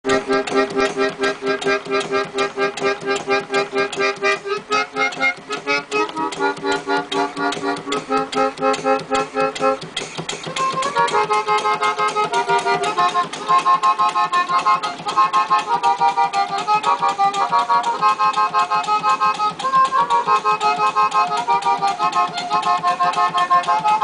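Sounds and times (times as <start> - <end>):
organ playing reedy chords: 0.1 - 24.0.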